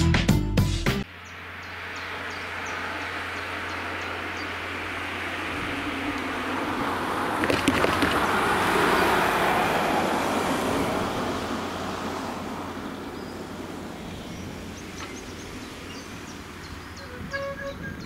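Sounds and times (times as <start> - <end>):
car driving past: 1.2 - 17.0.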